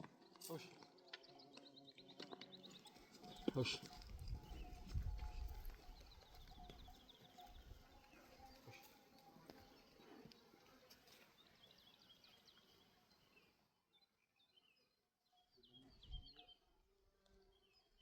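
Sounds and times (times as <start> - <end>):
faint bird chirps: 0.3 - 18.0.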